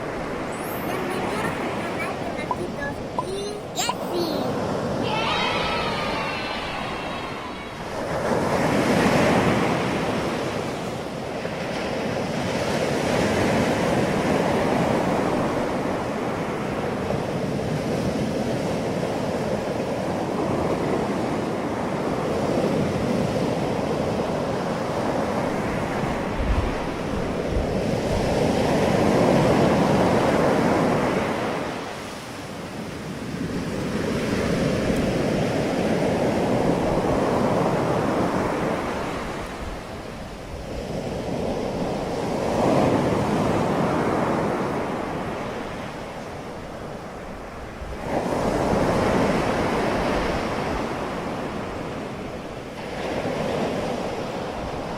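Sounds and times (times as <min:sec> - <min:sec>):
ocean surf breaking on beach: 0:00.0 - 0:54.9.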